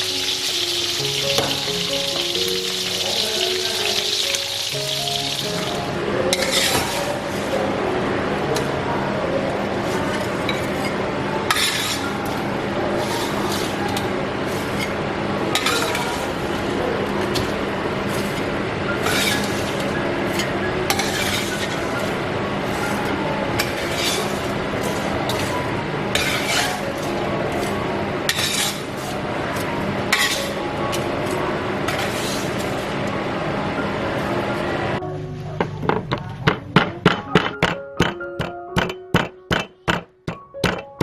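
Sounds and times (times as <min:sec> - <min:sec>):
utensils clinking on dishes: 0:00.0 - 0:07.6, 0:09.8 - 0:32.9, 0:35.6 - 0:41.0.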